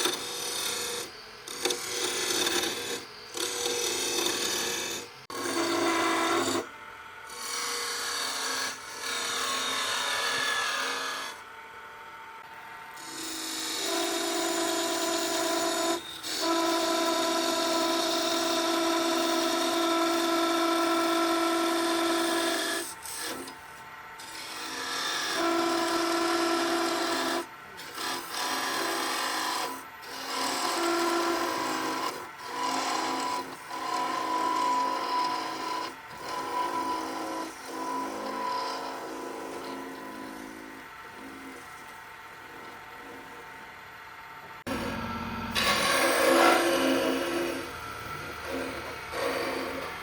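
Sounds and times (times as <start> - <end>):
power tool shaping wood: 0.0 - 11.5, 13.0 - 43.7, 44.7 - 50.0.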